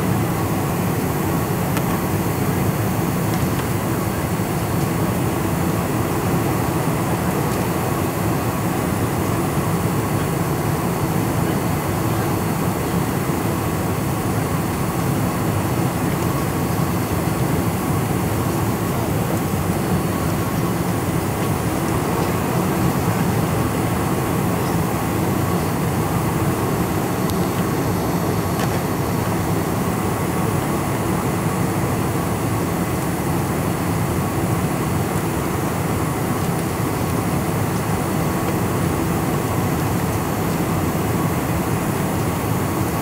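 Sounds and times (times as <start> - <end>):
airplane cabin engine roar: 0.0 - 43.0.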